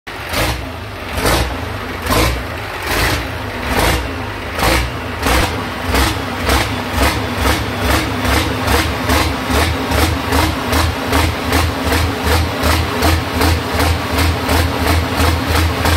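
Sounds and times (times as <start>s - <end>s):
engine exhaust puffing: 0.1s - 15.9s.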